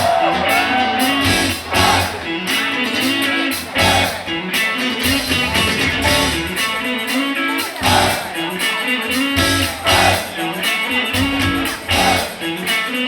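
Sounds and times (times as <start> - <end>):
bass line: 0.0 - 12.7
strummed and picked guitar: 0.0 - 13.0.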